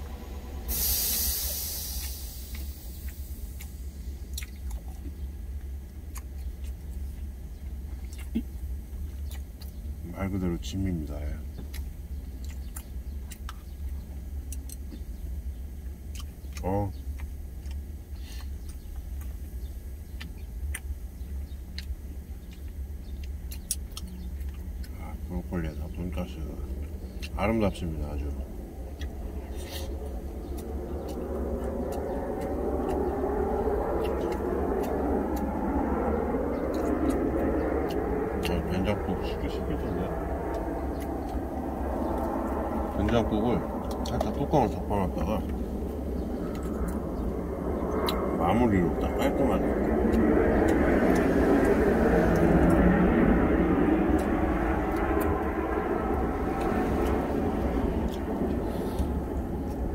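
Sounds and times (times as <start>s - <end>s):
person chewing crunchy food: 0.0s - 10.0s, 11.4s - 26.0s, 28.3s - 43.0s, 43.6s - 44.4s, 45.4s - 49.0s, 49.6s - 59.9s
low steady hum in truck cab: 0.0s - 59.9s
passing traffic rumble: 0.0s - 59.9s
road noise rush: 0.0s - 59.9s.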